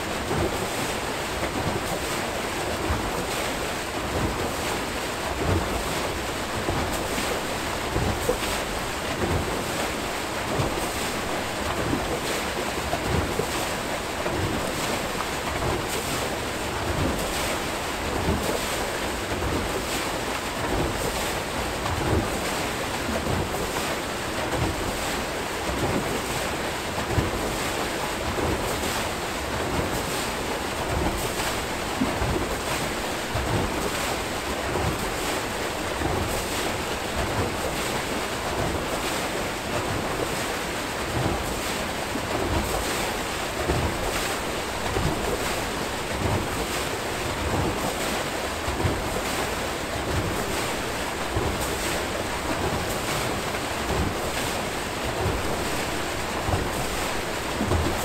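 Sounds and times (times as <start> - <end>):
water rushing and churning: 0.0 - 58.0.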